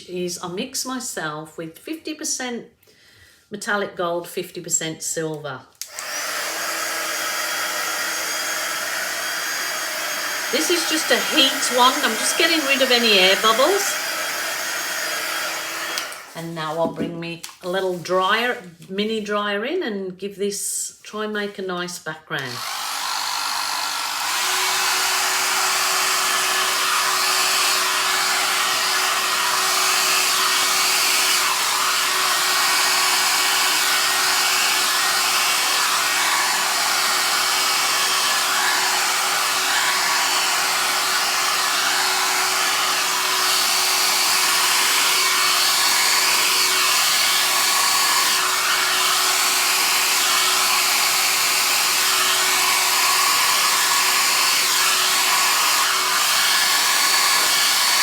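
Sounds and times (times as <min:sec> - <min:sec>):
hair dryer running: 0:05.8 - 0:18.3, 0:22.4 - 0:58.0.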